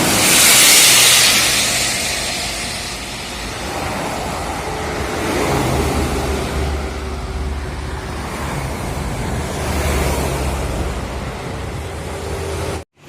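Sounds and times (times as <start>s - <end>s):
deep engine rumble: 0.0s - 12.8s
rush of tyre and air noise: 0.0s - 13.0s.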